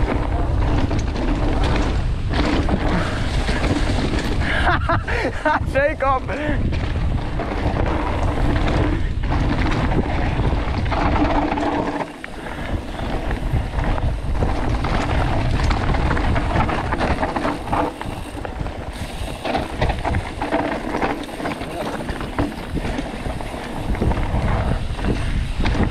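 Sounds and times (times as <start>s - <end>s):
bike rattling over bumps: 0.0s - 25.9s
tyres rumbling on dirt: 0.0s - 25.9s
wind buffeting microphone: 0.0s - 25.9s.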